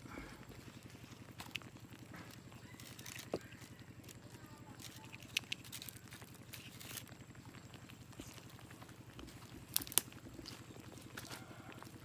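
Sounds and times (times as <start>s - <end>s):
motor running with low pulse: 0.0s - 12.0s.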